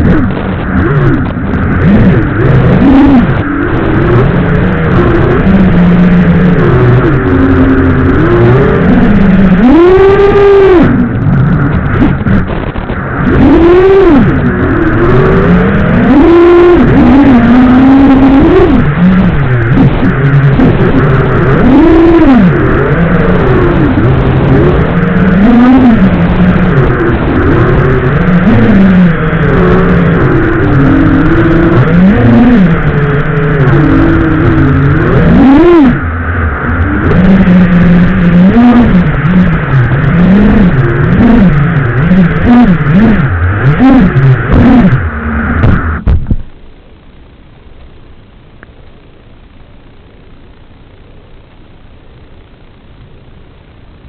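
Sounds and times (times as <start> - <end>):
drone motors and propellers whining: 0.0 - 54.0.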